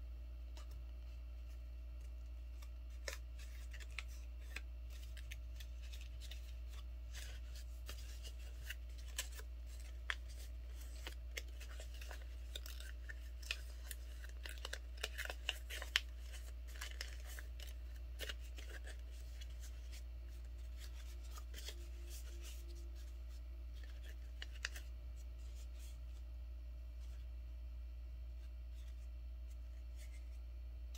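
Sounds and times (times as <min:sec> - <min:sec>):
steady low hum: 0:00.0 - 0:30.9
paper rustle: 0:01.4 - 0:26.2.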